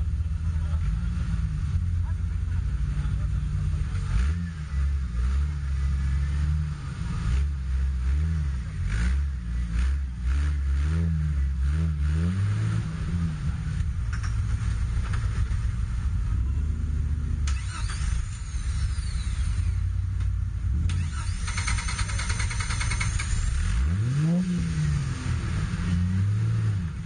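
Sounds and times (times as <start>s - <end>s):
engine working under load: 0.0s - 27.0s.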